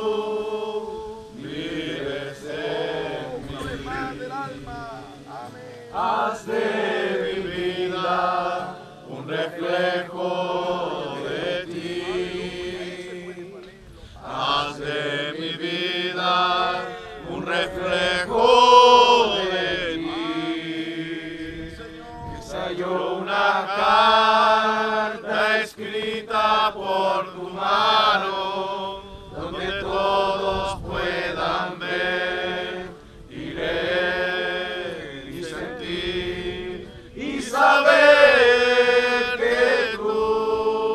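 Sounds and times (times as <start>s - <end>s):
congregation singing: 0.0s - 40.9s.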